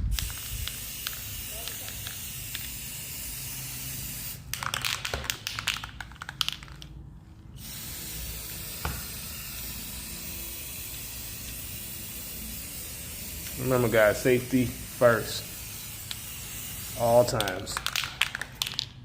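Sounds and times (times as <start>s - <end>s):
aerosol spray can hissing: 0.1s - 4.5s, 7.6s - 18.8s.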